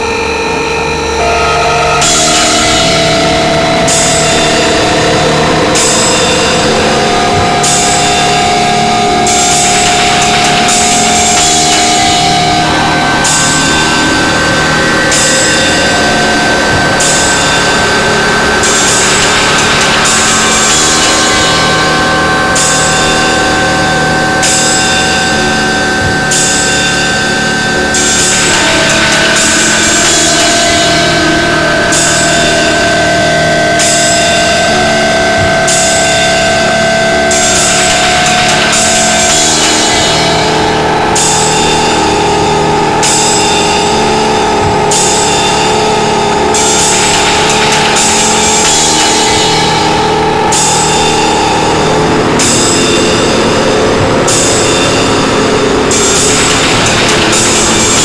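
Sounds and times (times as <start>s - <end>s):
dense wall of noise: 0.0s - 58.0s
held drone tones: 0.0s - 58.0s.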